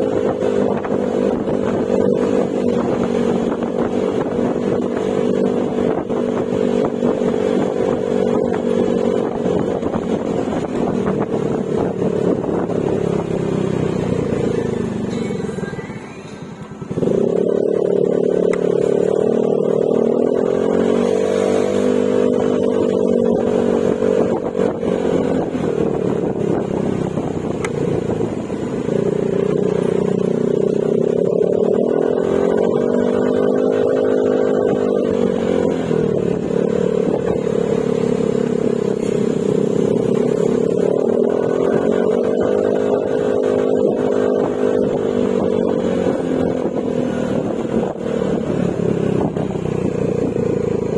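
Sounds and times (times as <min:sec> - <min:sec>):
scooter engine running: 0:00.0 - 0:50.9.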